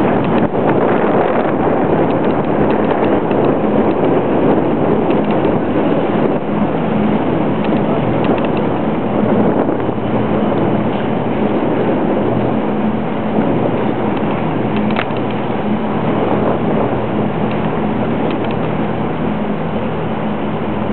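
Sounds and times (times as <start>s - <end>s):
motorboat engine hum: 0.0s - 20.9s
rushing water: 0.0s - 20.9s
wind on microphone: 0.0s - 20.9s.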